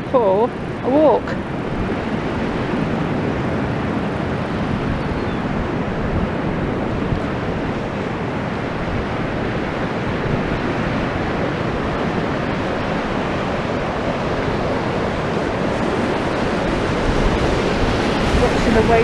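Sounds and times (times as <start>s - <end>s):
waves rushing: 0.0s - 19.0s
wind buffeting microphone: 0.0s - 19.0s.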